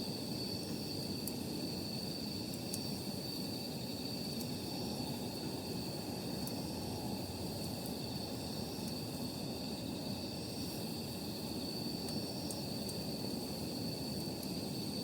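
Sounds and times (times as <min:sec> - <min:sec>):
campfire crackles: 0:00.0 - 0:15.0.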